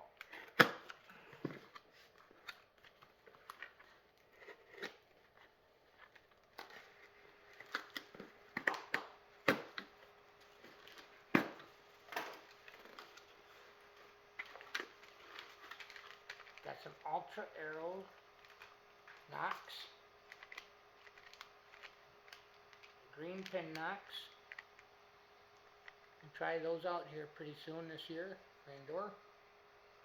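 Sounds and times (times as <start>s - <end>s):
packaging crinkling and tearing: 0.1s - 24.9s.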